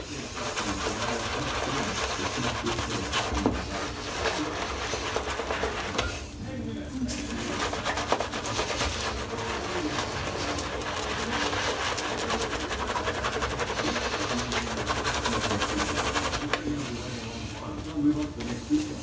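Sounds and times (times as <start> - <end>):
shaving brush swishing lather: 0.0 - 19.0.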